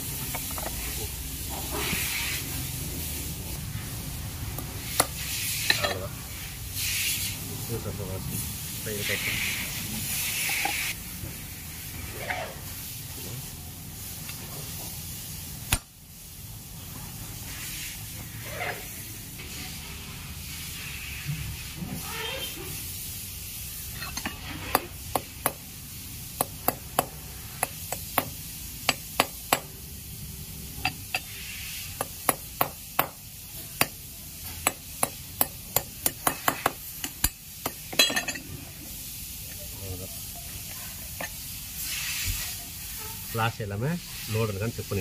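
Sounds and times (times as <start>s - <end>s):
steady background noise: 0.0s - 45.0s.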